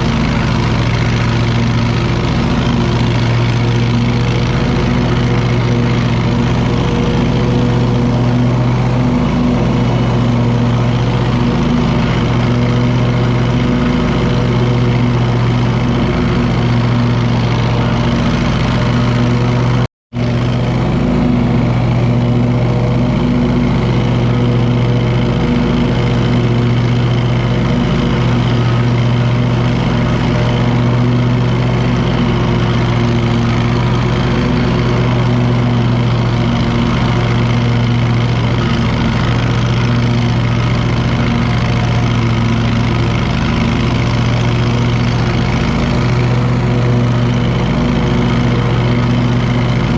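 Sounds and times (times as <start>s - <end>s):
mower engine running: 0.0s - 49.9s.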